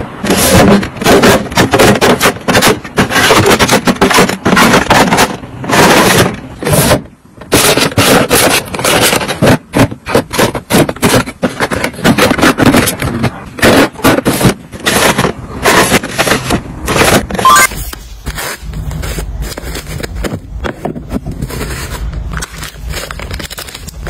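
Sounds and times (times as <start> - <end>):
cardboard boxes handled against plastic: 0.0 - 24.0
plastic drawers sliding: 0.0 - 24.0.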